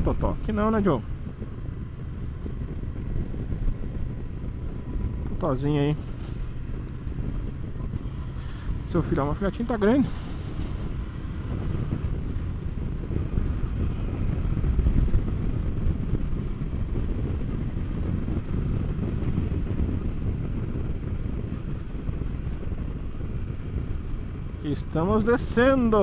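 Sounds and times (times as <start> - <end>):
motorcycle engine rumbling: 0.0 - 26.0
road and wind noise: 0.0 - 26.0.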